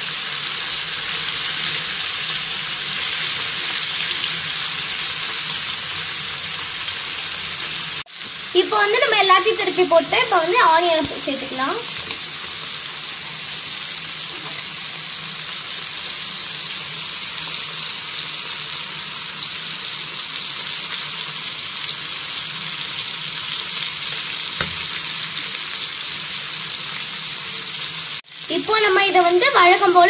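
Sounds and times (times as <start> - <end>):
fish and onion sizzling in oil: 0.0 - 30.0.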